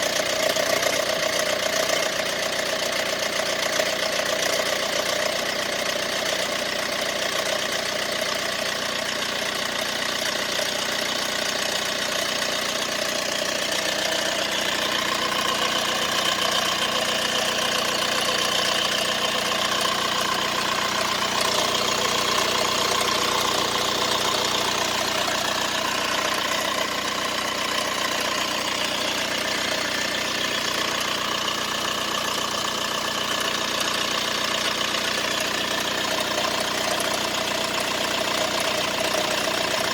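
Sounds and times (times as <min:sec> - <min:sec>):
car engine idling: 0:00.0 - 0:39.9
engine rattle: 0:00.0 - 0:39.9.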